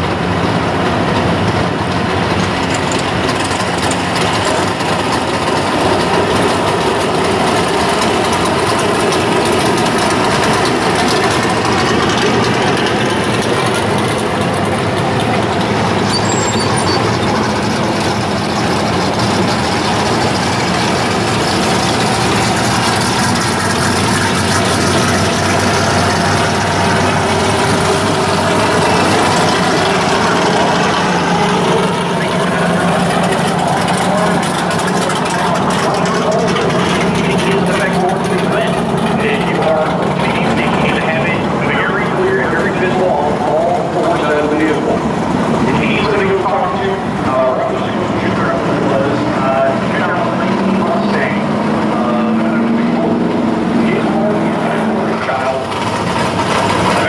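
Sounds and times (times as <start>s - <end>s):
car engines rumbling past: 0.0s - 57.0s.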